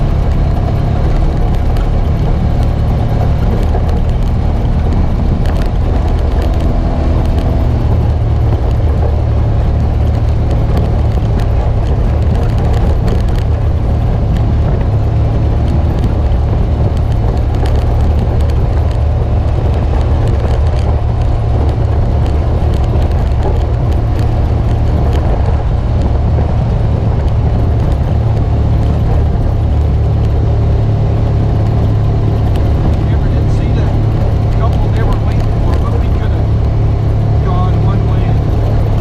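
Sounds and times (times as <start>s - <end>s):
engine running steadily: 0.0s - 39.0s
gravel clicking under tyres: 0.0s - 39.0s.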